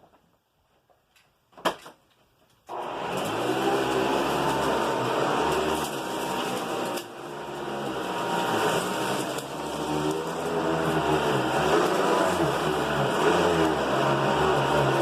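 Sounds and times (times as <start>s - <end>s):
vacuum cleaner motor hum: 2.7s - 15.0s.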